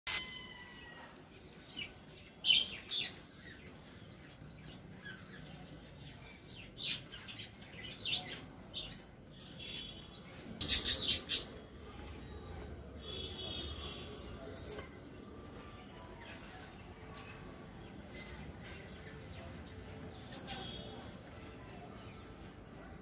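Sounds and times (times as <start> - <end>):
birds chirping: 0.3 - 23.0.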